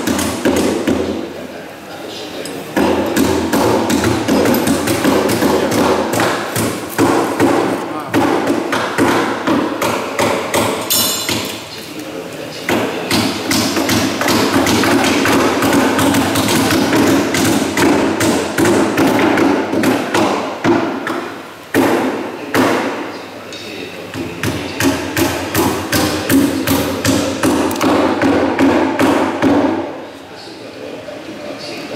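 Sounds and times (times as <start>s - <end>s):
hammers striking wood: 0.0s - 1.3s, 2.8s - 11.6s, 12.7s - 23.0s, 24.1s - 29.9s.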